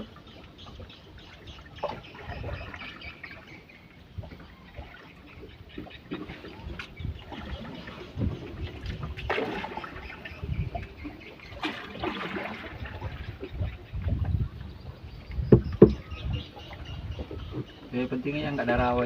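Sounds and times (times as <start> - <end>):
water splashing against boat: 0.0 - 19.0.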